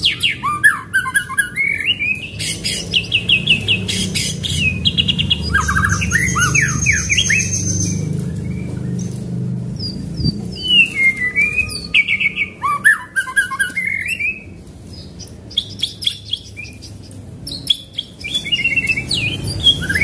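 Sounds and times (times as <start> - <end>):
songbird whistling and chattering: 0.0 - 20.0.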